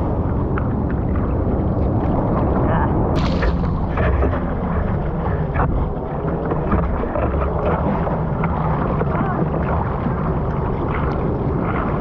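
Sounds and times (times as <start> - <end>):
surf and rushing water: 0.0 - 12.0.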